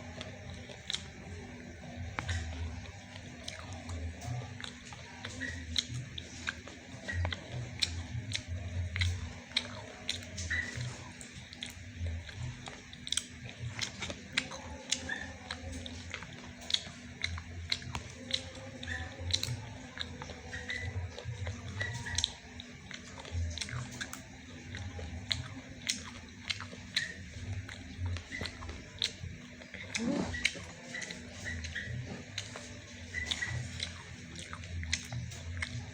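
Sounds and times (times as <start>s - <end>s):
person chewing crispy food: 0.0s - 35.9s.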